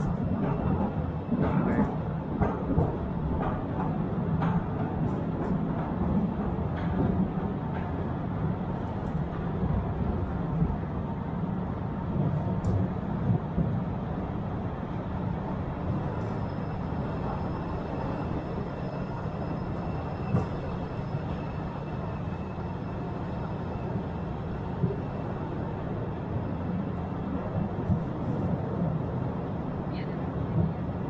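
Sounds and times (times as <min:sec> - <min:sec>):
carriages rumbling on rails: 0:00.0 - 0:31.0.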